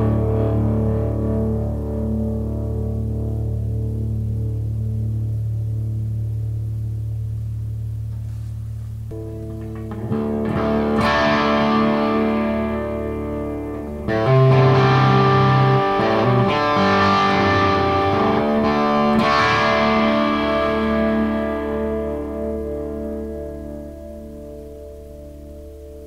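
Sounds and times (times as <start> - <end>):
electric guitar chords ringing: 0.0 - 8.2, 9.1 - 26.0.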